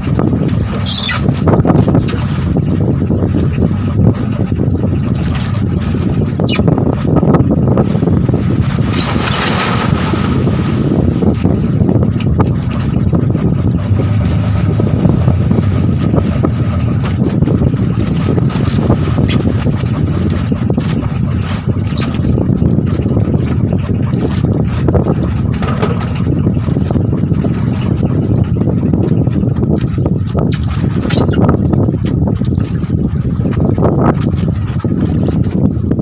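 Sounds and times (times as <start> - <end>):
boat engine rumbling: 0.0 - 36.0
rough sea slapping: 0.0 - 36.0
wind: 0.0 - 36.0.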